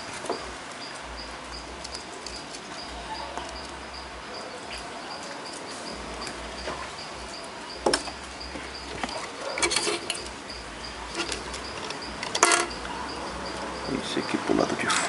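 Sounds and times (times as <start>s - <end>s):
faint high pulsing chirp: 0.0s - 14.9s.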